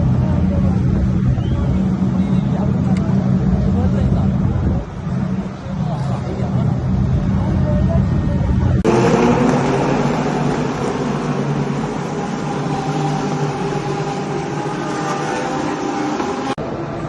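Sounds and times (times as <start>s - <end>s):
vehicle engine running: 0.0s - 16.6s
heavy road noise: 0.0s - 17.0s.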